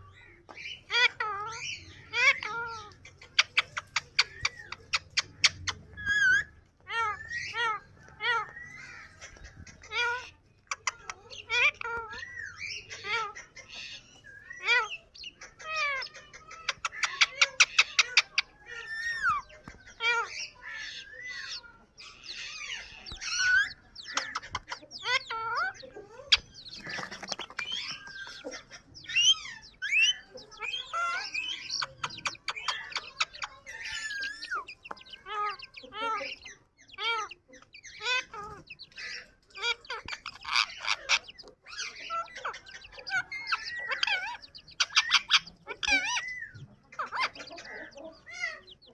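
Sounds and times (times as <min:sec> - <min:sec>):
parrot chirping and squawking: 0:00.0 - 0:48.9.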